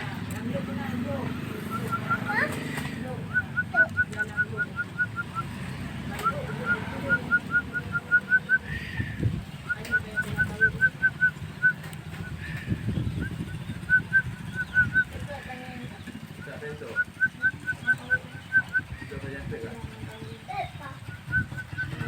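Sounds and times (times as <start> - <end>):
myna chirping rapidly: 0.8 - 22.0.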